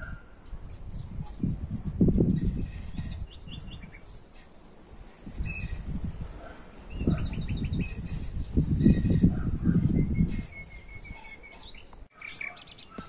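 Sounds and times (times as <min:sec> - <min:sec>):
wind rumble on microphone: 0:00.0 - 0:12.1
small birds chirping: 0:00.0 - 0:13.0.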